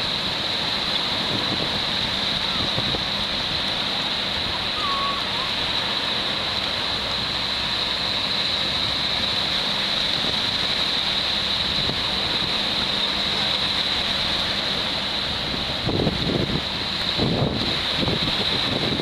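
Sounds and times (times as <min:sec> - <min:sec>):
small waves breaking: 0:00.0 - 0:19.0.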